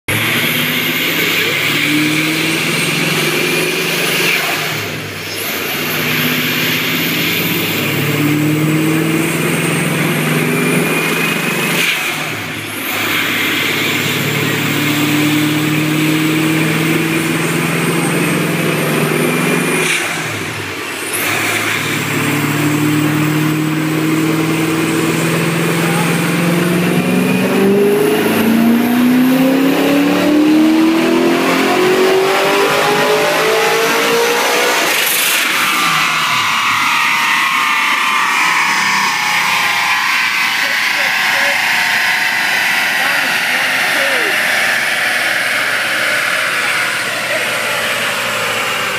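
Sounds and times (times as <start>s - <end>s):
supercharged engine running on dyno: 0.1s - 48.9s.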